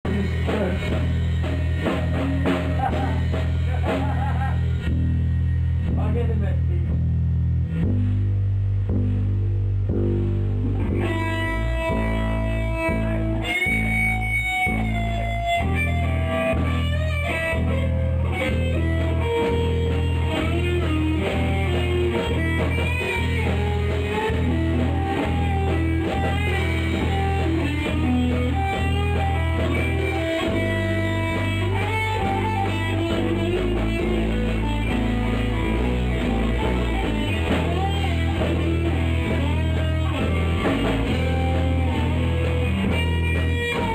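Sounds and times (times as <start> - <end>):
bass guitar line: 0.0 - 43.9
electric guitar lead lines: 0.0 - 43.9.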